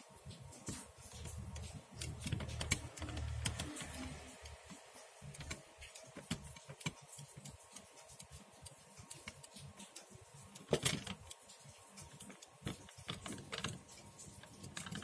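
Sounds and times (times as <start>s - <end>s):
toy clicks and taps: 0.7s - 15.0s.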